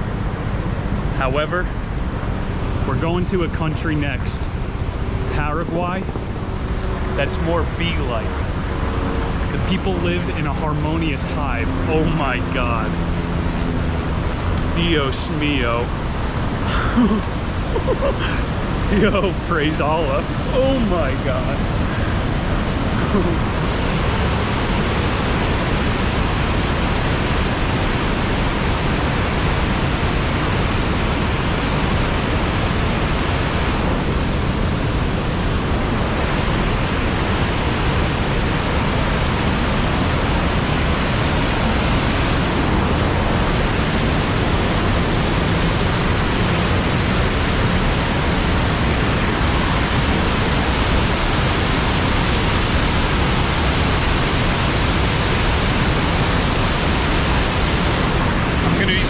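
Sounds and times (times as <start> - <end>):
waterfall rushing: 11.6 - 59.0.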